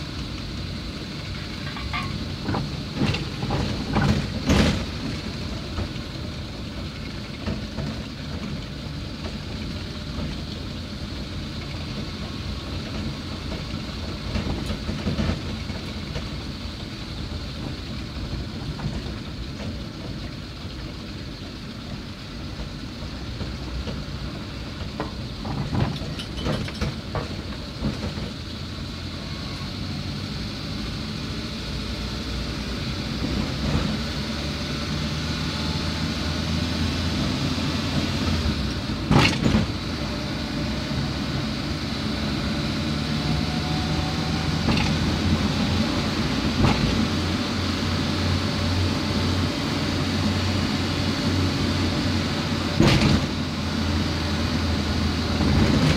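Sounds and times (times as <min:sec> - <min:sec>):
vehicle engine hum: 0:00.0 - 0:55.9.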